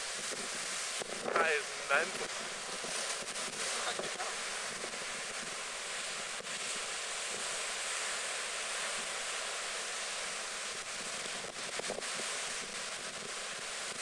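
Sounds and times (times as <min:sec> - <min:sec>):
waves breaking over wall: 0:00.0 - 0:14.0.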